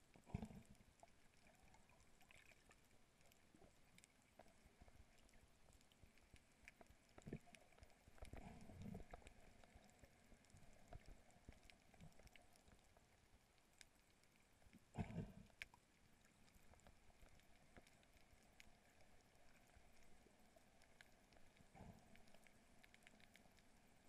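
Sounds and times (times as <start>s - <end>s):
small clicks and crackles: 0.0s - 24.0s.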